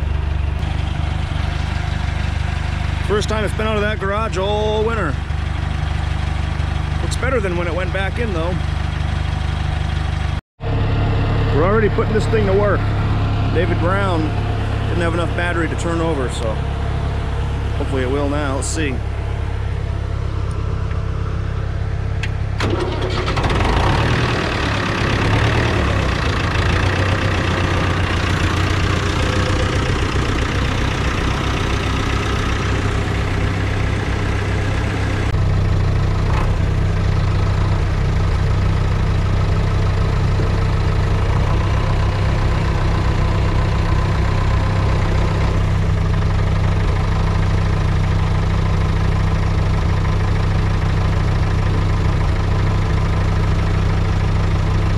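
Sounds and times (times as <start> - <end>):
tractor engine starting and idling: 0.0 - 54.9.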